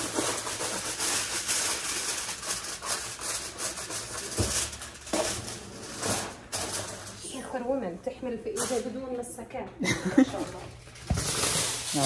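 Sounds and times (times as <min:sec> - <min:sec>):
aluminium foil crinkling: 0:00.0 - 0:07.7, 0:08.5 - 0:09.0, 0:10.4 - 0:12.0.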